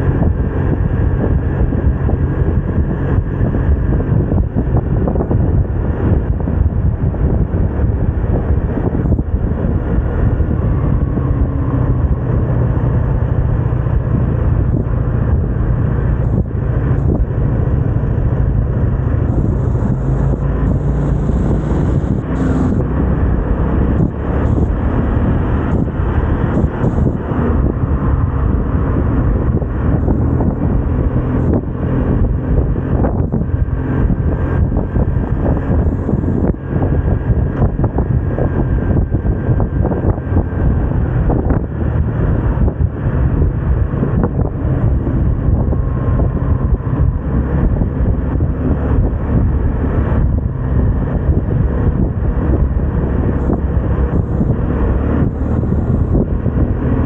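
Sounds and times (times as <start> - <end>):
road noise: 0.0 - 57.0
scooter engine running: 0.0 - 57.0
wind rushing over microphone: 0.0 - 57.0.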